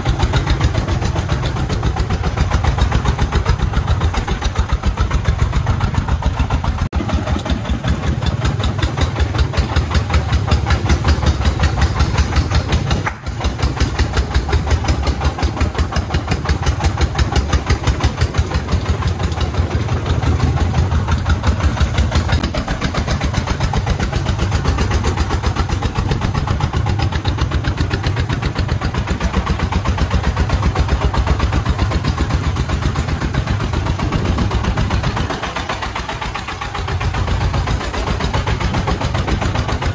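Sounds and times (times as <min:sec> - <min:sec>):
diesel engine chugging under load: 0:00.0 - 0:39.9.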